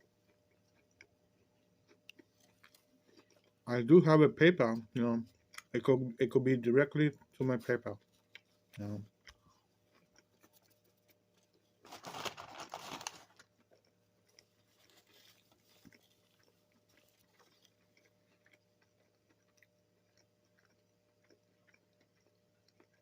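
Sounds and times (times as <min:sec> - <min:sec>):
faint chewing: 0:00.0 - 0:23.0.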